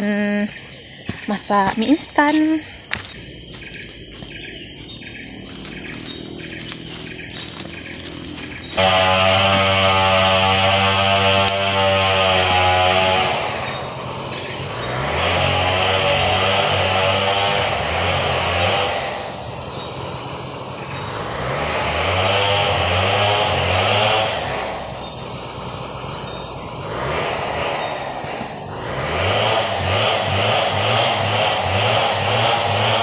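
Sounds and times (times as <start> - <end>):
high-pitched insect drone: 0.0 - 33.0
low motor-like drone: 1.4 - 33.0.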